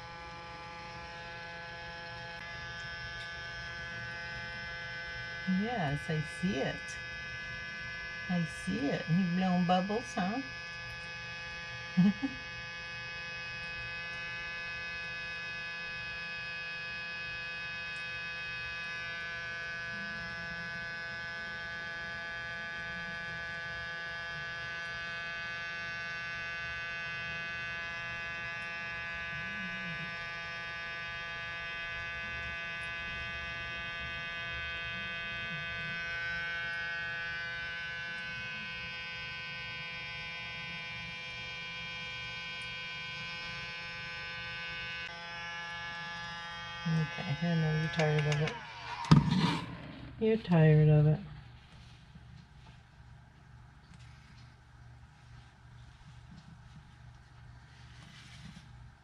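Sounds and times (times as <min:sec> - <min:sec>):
nebulizer humming: 0:00.0 - 0:59.0.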